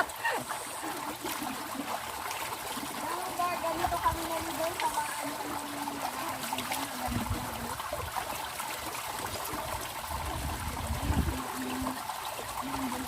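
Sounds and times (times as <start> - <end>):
stream water trickling: 0.0 - 13.0.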